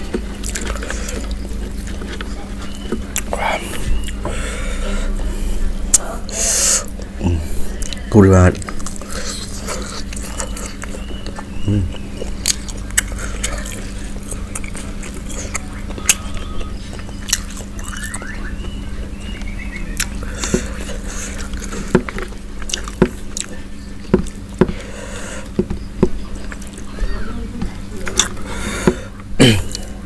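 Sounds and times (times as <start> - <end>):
chewing crispy fried chicken: 0.0 - 30.0
low hum: 0.0 - 30.0.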